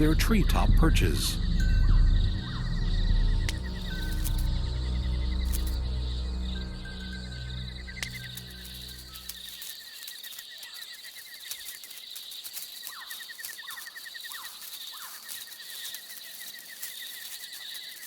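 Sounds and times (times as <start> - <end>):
insects trilling: 0.0 - 18.0
rapid pulsing insect trill: 0.0 - 18.0.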